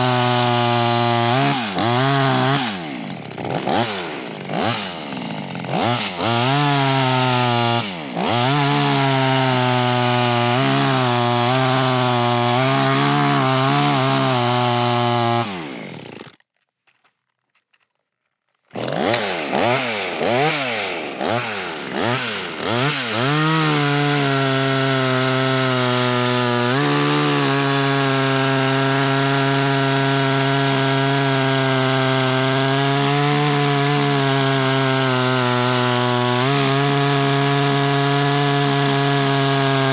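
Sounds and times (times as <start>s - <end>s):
chainsaw revving and cutting: 0.0s - 16.5s, 18.7s - 39.9s.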